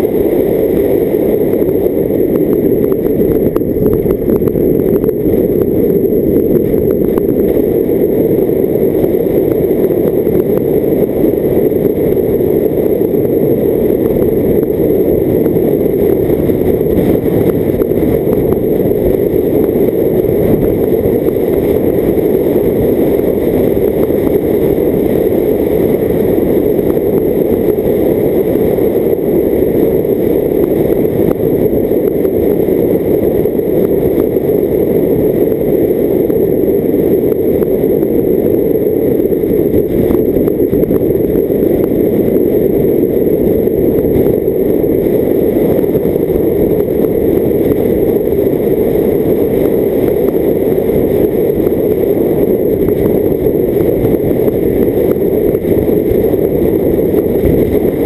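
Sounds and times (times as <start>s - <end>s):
muffled wind and road noise: 0.0s - 58.0s.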